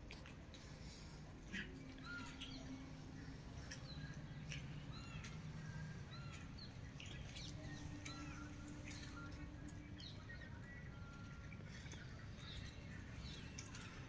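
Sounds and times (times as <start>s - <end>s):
low steady hum: 0.0s - 14.0s
small birds chirping: 0.6s - 14.0s.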